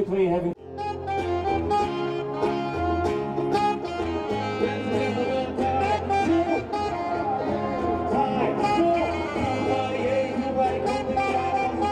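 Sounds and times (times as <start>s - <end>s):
live band music with steady beat: 0.6s - 11.9s.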